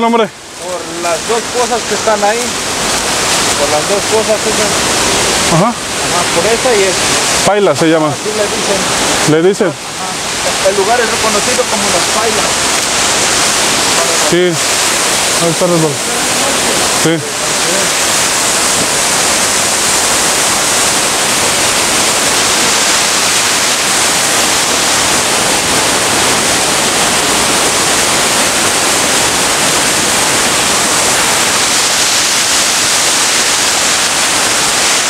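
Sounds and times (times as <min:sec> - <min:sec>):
waterfall rushing over rock: 0:00.0 - 0:35.0.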